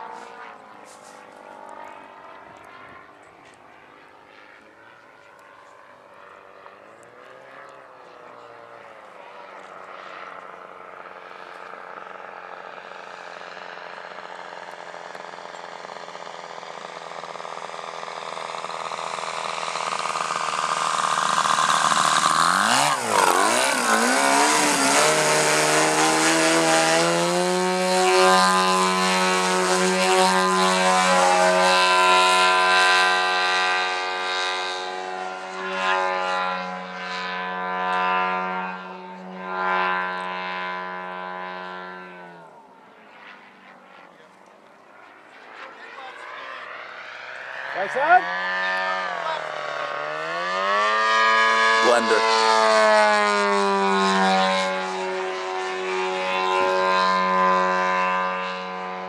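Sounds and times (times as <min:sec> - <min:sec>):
model plane engine and propeller: 0:00.0 - 0:59.0.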